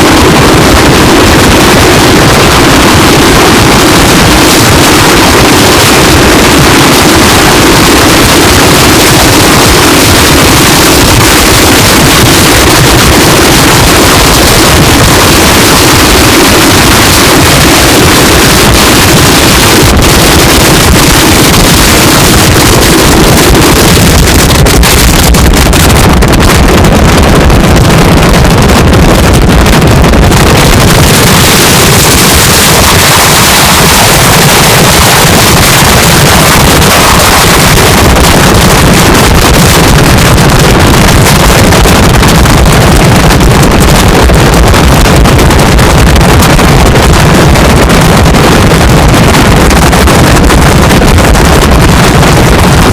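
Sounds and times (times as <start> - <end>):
wind roaring on microphone: 0.0 - 52.9.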